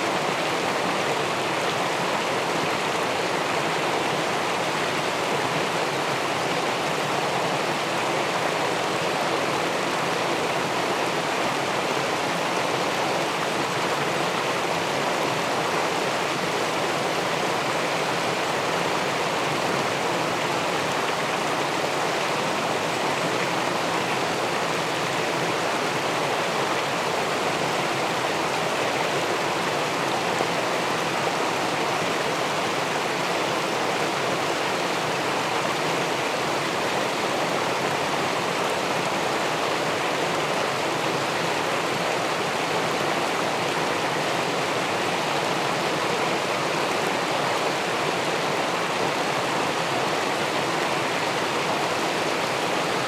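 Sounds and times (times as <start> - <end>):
river water rushing over weir: 0.0 - 53.0.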